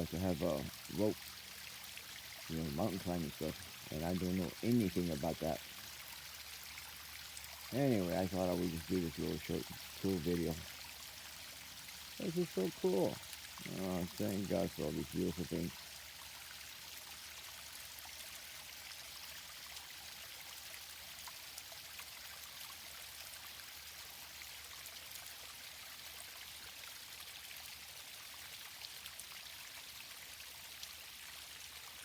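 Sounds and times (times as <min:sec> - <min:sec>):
small waterfall splashing: 0:00.0 - 0:32.0.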